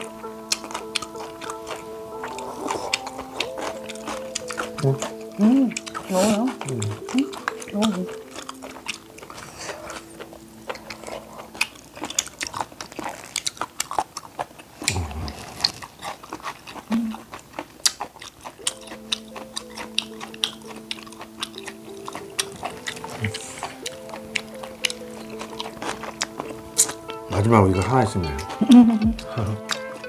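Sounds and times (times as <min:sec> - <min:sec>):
soft background music: 0:00.0 - 0:13.7, 0:18.3 - 0:30.0
chewing and wet mouth smacks: 0:00.0 - 0:30.0.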